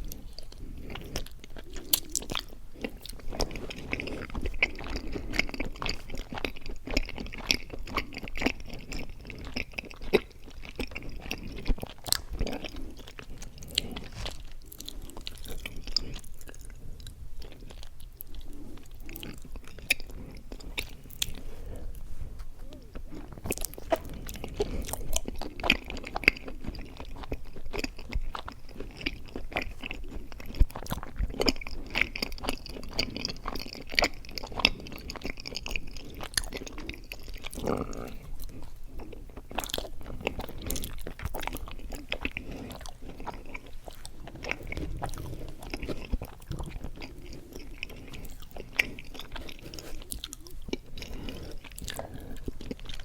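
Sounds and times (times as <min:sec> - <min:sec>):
wet chewing mouth sounds: 0:00.0 - 0:53.0.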